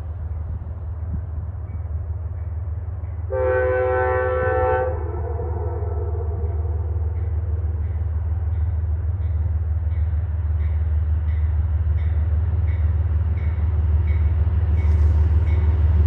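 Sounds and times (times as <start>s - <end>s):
train locomotive rumbling: 0.0s - 16.0s.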